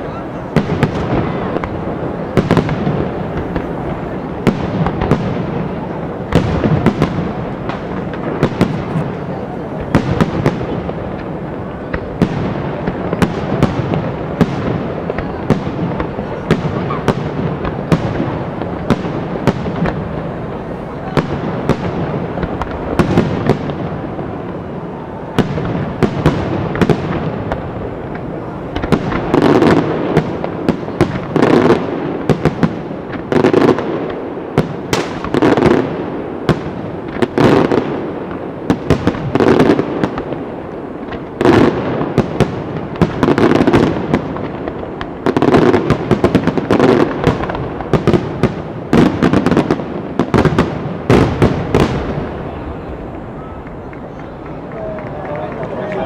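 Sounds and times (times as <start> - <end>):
firework bursts cracking and banging: 0.0 - 56.0.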